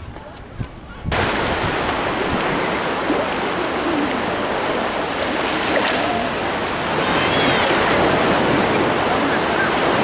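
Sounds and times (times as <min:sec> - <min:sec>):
seawater lapping and splashing: 0:01.1 - 0:10.0.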